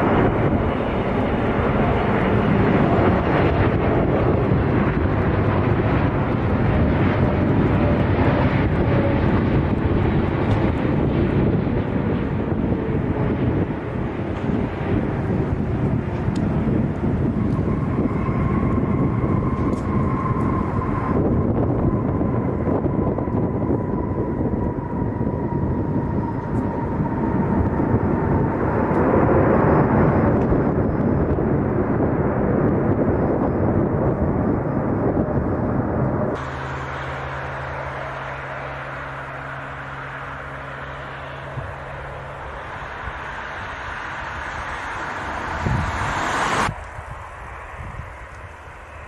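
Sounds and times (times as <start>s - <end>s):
jet engines roaring: 0.0s - 49.0s
steady low hum: 0.0s - 49.0s.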